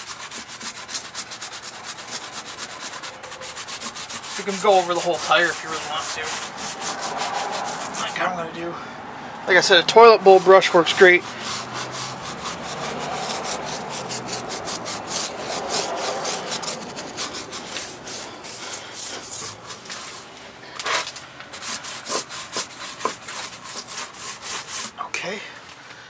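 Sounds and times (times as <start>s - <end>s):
brush scrubbing rubber tire: 0.0s - 8.7s, 9.5s - 25.0s.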